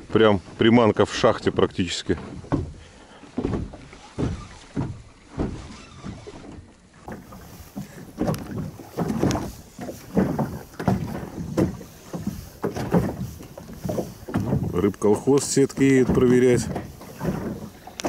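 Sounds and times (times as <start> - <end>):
water slapping against boat hull: 0.0 - 18.0.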